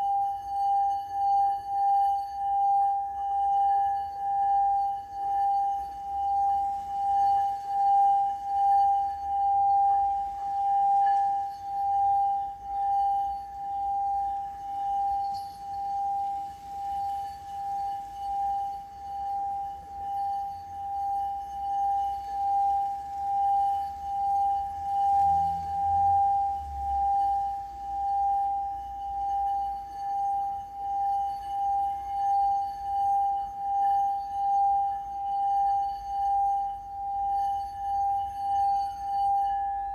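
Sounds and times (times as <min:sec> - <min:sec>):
singing bowl ringing: 0:00.0 - 0:39.9.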